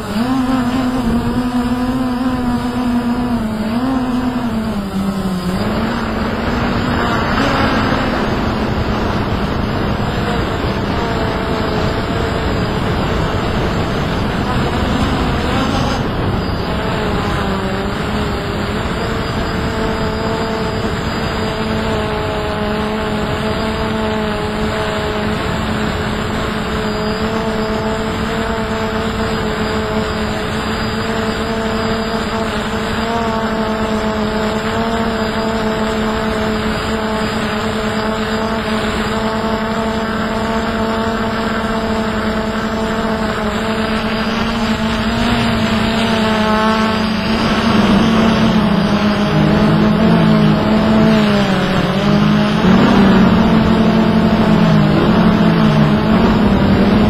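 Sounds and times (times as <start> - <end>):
drone motors whining: 0.0 - 57.0
wind on microphone: 0.0 - 57.0.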